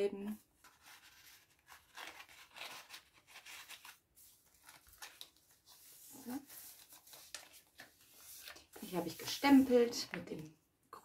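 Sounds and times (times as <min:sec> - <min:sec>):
paper rustling and scraping: 0:00.6 - 0:10.4.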